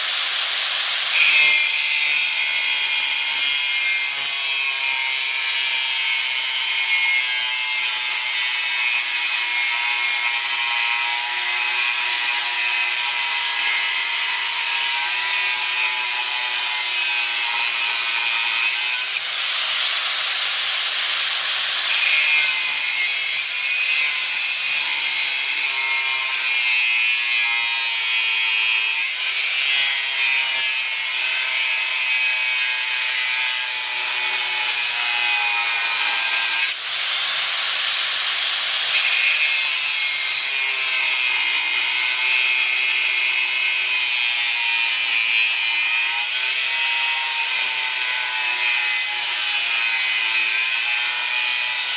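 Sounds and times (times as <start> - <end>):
angle grinder grinding steel: 0.0 - 51.9.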